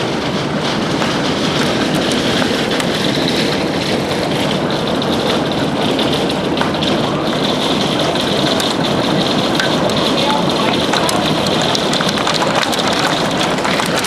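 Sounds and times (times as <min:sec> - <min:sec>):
hailstones ticking: 0:00.0 - 0:14.0
heavy rain and wind: 0:00.0 - 0:14.0.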